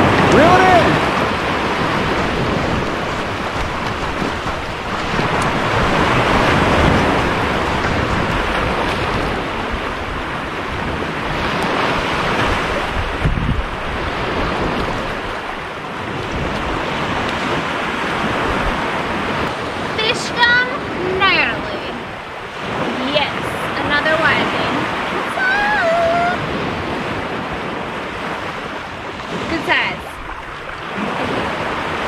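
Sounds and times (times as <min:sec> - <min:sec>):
ocean surf washing onto beach: 0:00.0 - 0:32.0
wind rumbling on microphone: 0:00.0 - 0:32.0.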